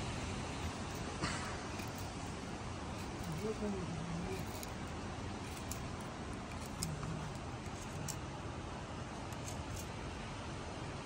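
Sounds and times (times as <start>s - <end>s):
steady rushing outdoor noise: 0.0s - 11.0s.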